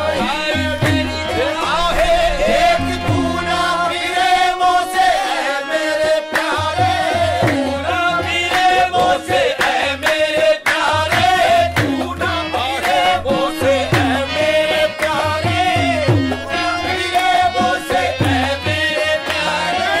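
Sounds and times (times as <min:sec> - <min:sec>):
chorus clapping in rhythm: 0:00.0 - 0:20.0
chorus singing: 0:00.0 - 0:20.0
harmonium: 0:00.0 - 0:20.0
man singing lead: 0:00.0 - 0:20.0.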